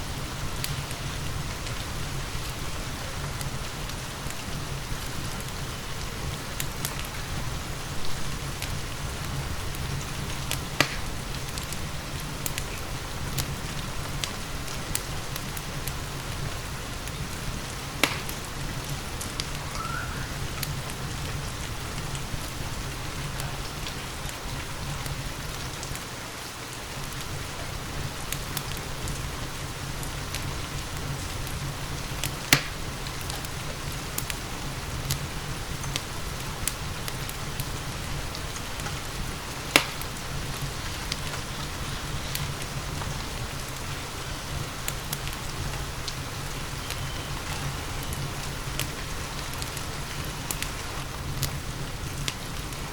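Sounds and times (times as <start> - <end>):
fireplace fire burning: 0.0 - 52.9
steady rain: 0.0 - 52.9
burning wood popping: 0.1 - 52.9.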